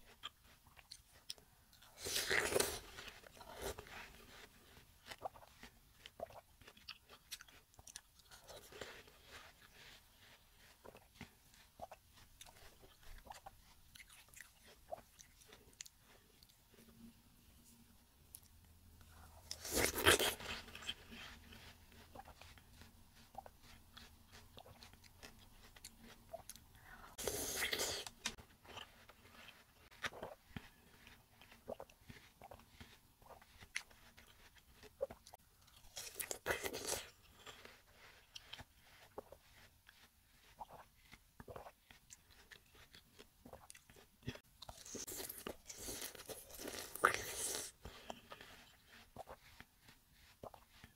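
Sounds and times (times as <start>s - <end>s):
chewing watermelon: 0.0s - 50.9s.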